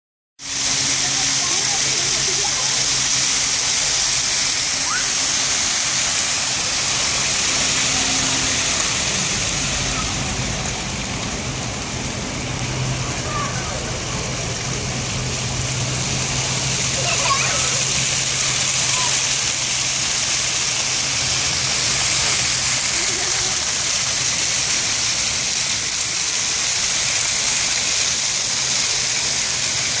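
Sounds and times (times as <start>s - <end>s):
fountain jets spraying and splashing: 0.4s - 30.0s.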